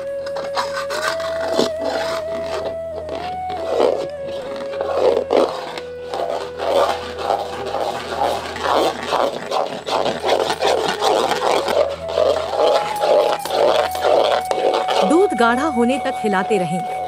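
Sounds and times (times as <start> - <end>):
metal spatula scraping a pot: 0.0 - 17.0.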